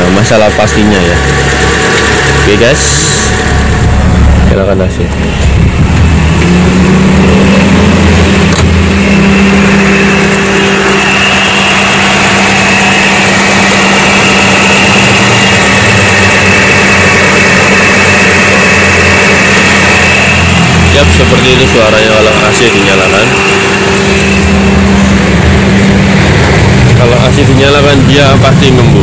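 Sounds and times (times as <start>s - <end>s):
car engine idling: 0.0s - 29.0s
thin high whine: 0.0s - 29.0s.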